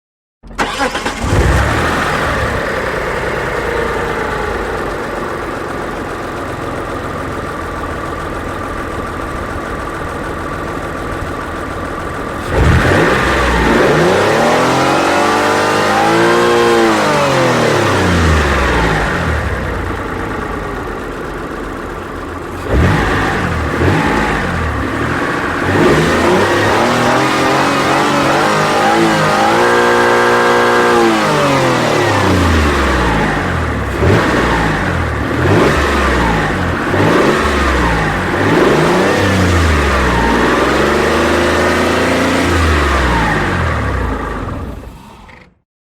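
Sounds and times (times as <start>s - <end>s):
car engine idling and revving: 0.4s - 45.6s.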